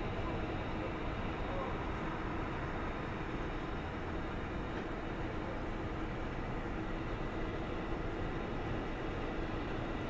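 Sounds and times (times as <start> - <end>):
distant jet engines: 0.0 - 10.0.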